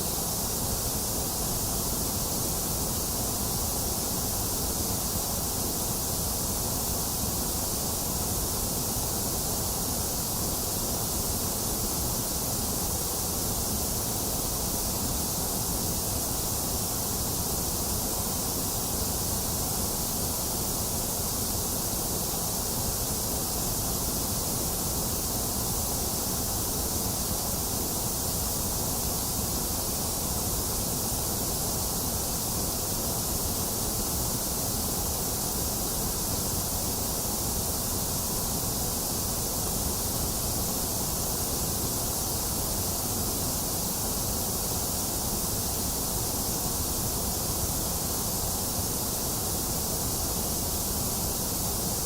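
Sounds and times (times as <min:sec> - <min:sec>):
white noise hiss: 0:00.0 - 0:52.0.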